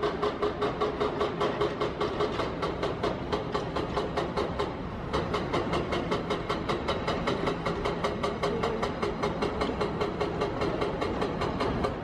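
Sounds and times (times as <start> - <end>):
train wheels clacking: 0.0 - 12.0.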